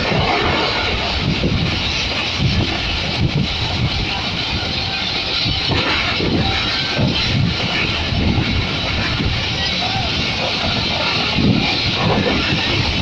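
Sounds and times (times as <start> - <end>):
rush of wind: 0.0 - 13.0
wheel-on-rail rumble: 0.0 - 13.0.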